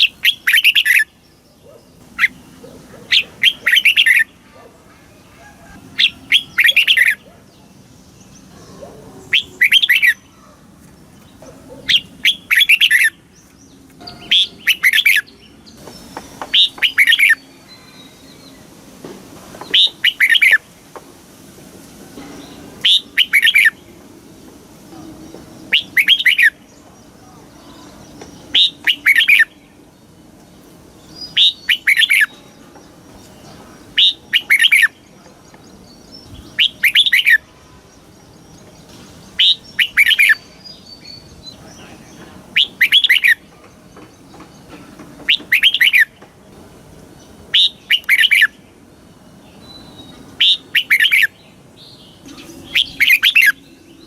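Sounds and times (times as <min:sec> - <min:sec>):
bird singing: 0:00.0 - 0:18.8, 0:19.5 - 0:20.7, 0:22.2 - 0:24.1, 0:24.9 - 0:54.0.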